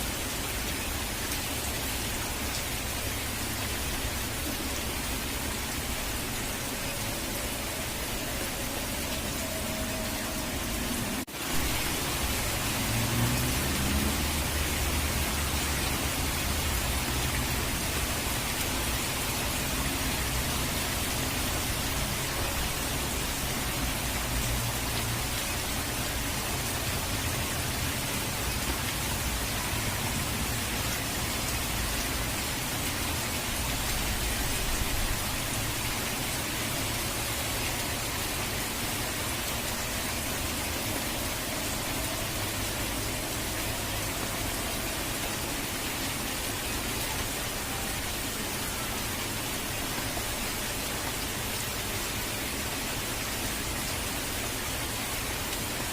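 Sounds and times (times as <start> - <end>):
falling rain: 0.0 - 55.9.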